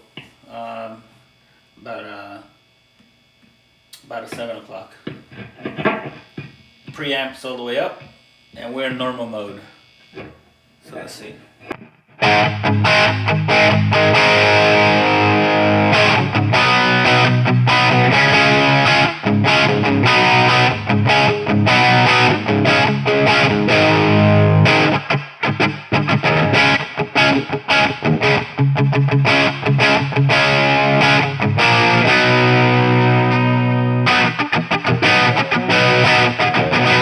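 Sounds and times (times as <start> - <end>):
distorted electric guitar: 0.0 - 10.7, 11.3 - 37.0.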